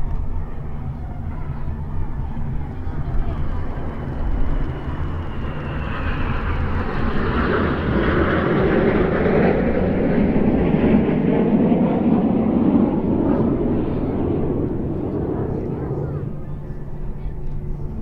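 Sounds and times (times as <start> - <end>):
jet planes flying over: 0.0 - 18.0.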